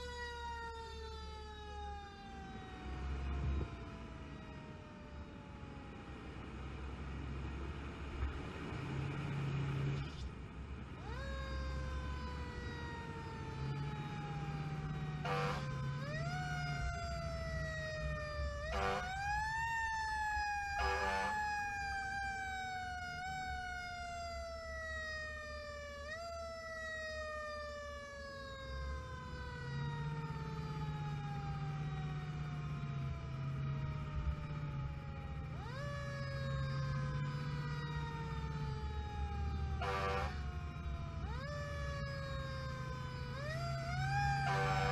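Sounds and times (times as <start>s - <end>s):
mechanical siren wailing: 0.0s - 6.0s, 11.0s - 44.9s.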